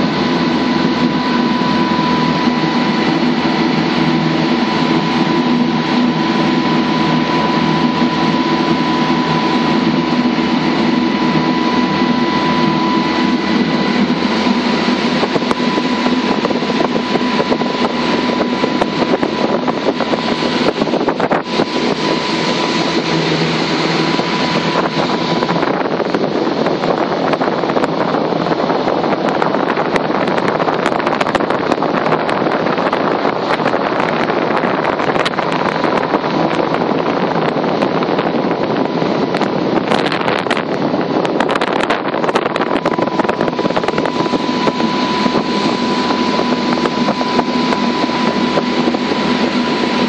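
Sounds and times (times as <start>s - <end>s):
motorboat engine: 0.0s - 50.0s
rushing water from hull: 0.0s - 50.0s
wind buffeting microphone: 0.0s - 50.0s.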